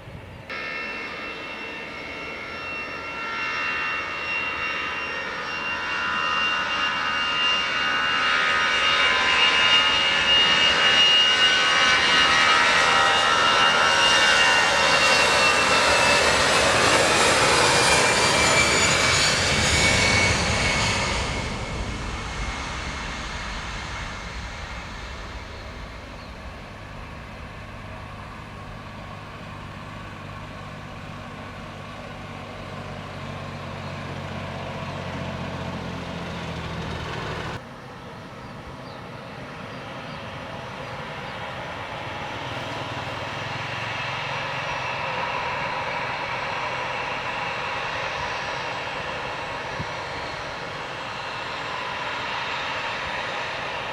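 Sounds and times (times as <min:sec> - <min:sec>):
airliner engine noise: 0:00.0 - 0:53.9.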